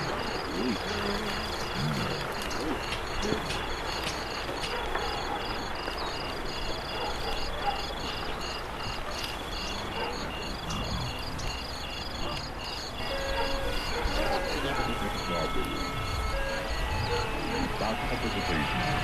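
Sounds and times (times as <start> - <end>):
insects chirping in chorus: 0.0 - 19.0.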